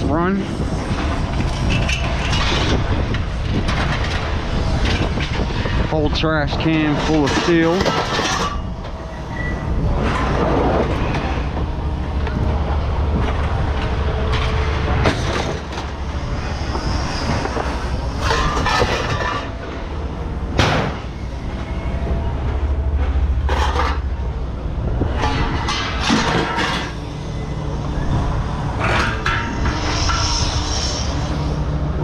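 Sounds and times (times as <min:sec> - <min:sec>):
low engine rumble: 0:00.0 - 0:32.0
scrap metal clanking and banging: 0:00.4 - 0:32.0.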